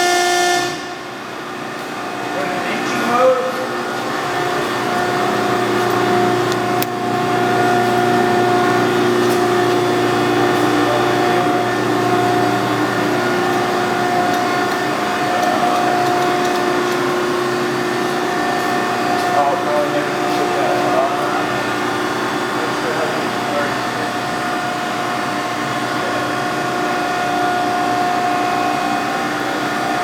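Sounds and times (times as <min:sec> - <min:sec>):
hydraulic motor and pump humming: 0:00.0 - 0:30.0.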